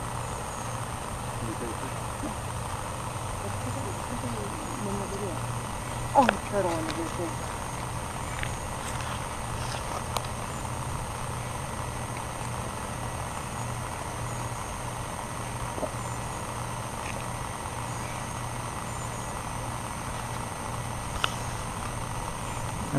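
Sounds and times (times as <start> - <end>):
steady engine-like drone: 0.0 - 22.9.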